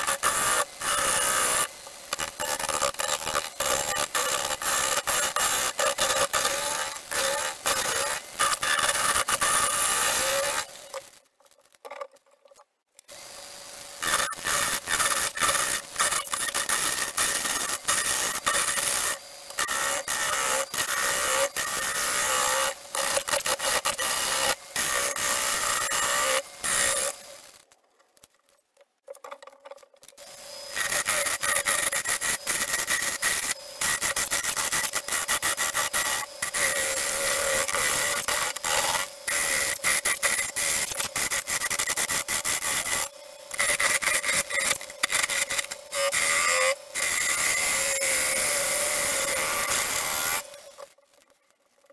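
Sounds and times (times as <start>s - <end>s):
lathe gouge cutting wood: 0.0s - 11.0s, 13.1s - 27.6s, 30.2s - 50.7s.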